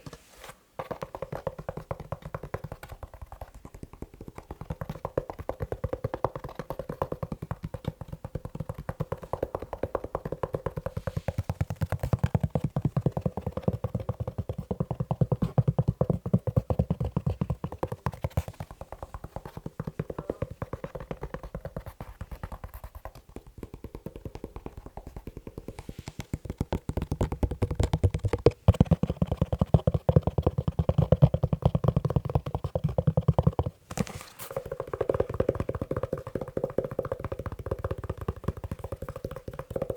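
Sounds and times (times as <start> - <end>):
tapping on a leather shoe: 0.8 - 39.9.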